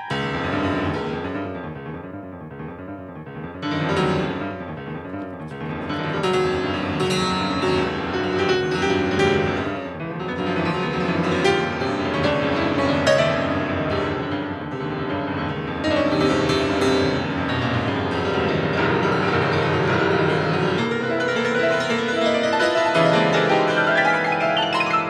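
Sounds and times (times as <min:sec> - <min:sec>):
classical piano music: 0:00.0 - 0:25.0.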